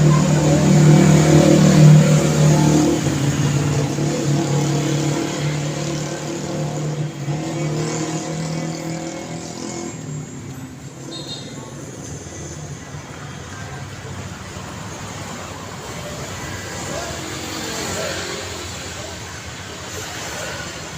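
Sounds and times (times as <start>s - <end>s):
tyre and road noise: 0.0s - 20.9s
vehicle engine humming: 0.0s - 20.9s.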